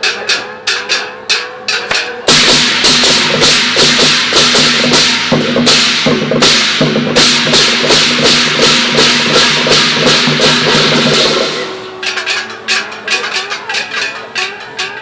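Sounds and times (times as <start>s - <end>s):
drums gongs and cymbals beating: 0.0s - 15.0s.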